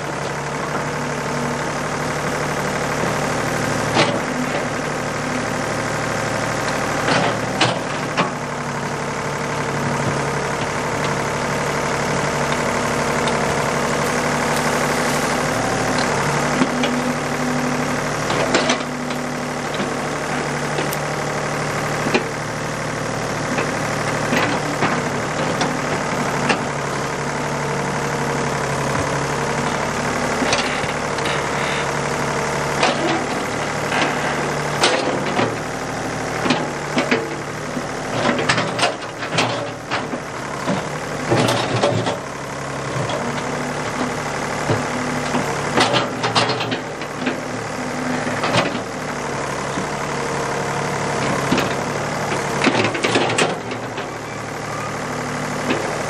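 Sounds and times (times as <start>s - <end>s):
backhoe engine running under load: 0.0s - 56.0s.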